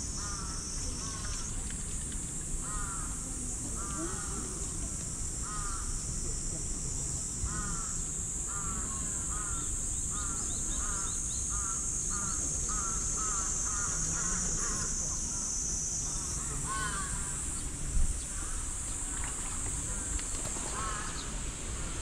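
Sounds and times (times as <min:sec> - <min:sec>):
high-pitched hiss: 0:00.0 - 0:22.0.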